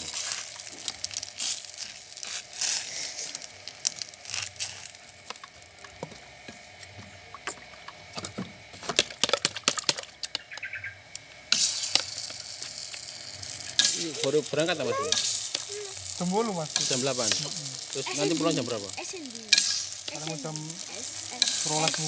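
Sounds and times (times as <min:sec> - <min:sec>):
oil sizzling: 0:00.0 - 0:07.8, 0:09.0 - 0:22.0.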